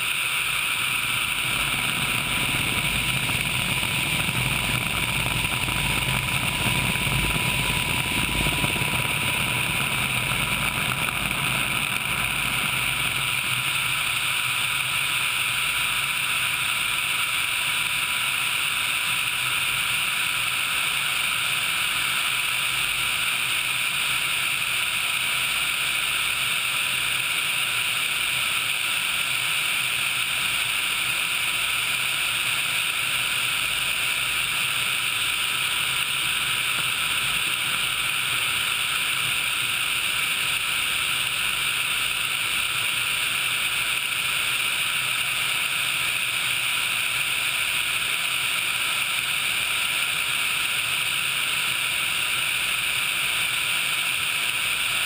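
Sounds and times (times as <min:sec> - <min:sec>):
airflow hiss on microphone: 0:00.0 - 0:55.0
helicopter engine and rotor: 0:00.0 - 0:55.0.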